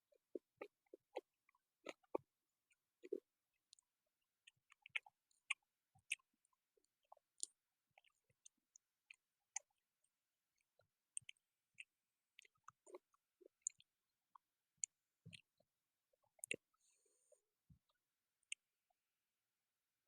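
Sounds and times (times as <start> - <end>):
person chewing food: 0.1 - 9.8, 10.6 - 18.6.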